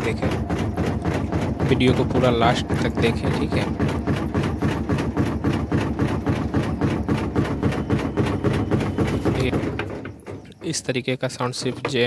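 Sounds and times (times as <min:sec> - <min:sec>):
washing machine drum rattling: 0:00.0 - 0:12.0.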